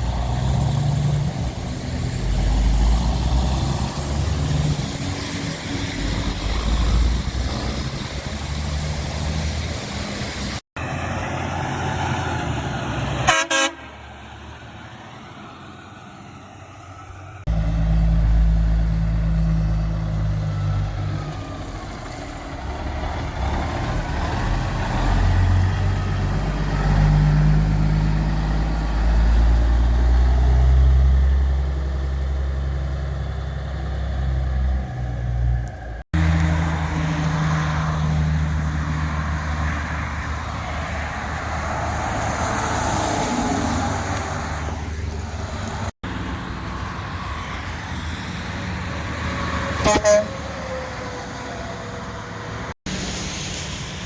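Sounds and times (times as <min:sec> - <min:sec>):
heavy truck engines passing: 0:00.0 - 0:54.0
road noise: 0:00.0 - 0:54.0.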